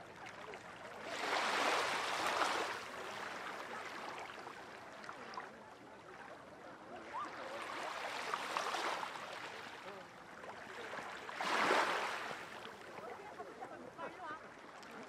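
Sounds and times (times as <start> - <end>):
low wash of sea: 0.0 - 15.0.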